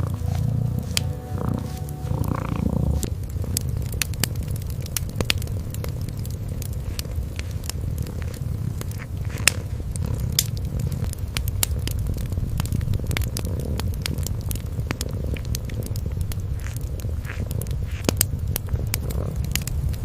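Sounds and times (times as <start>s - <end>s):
cat purring: 0.0s - 20.0s
wood fire crackling and popping: 0.0s - 20.0s.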